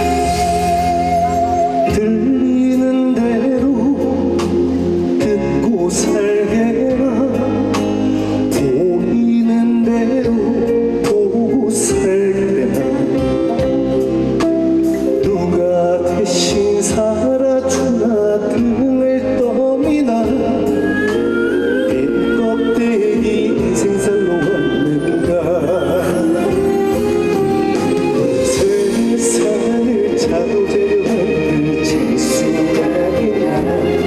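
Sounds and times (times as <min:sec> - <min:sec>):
man singing: 0:00.0 - 0:14.4, 0:15.0 - 0:34.0
band playing with drum beat: 0:00.0 - 0:34.0.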